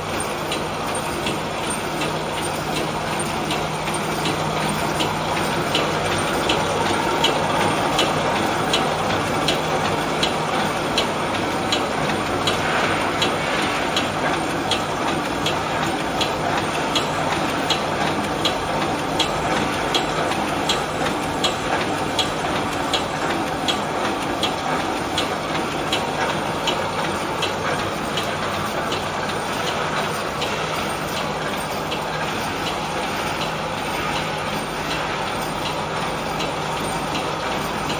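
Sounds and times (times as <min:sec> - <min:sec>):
steady motor hum: 0:00.0 - 0:37.9
welding machine clacking: 0:00.1 - 0:37.9.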